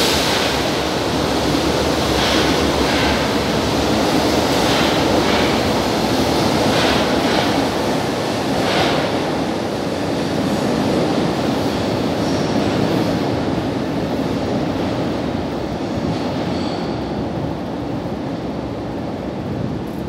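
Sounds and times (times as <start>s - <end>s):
train rumbling through tunnel: 0.0s - 20.0s.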